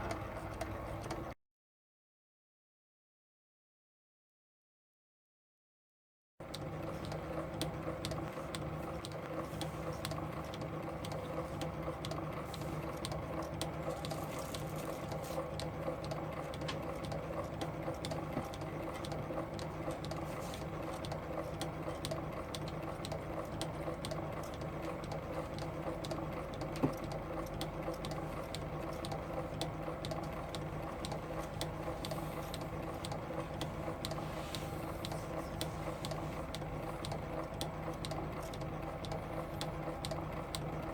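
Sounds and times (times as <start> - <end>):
film projector motor hum: 0.0 - 1.4, 6.4 - 40.9.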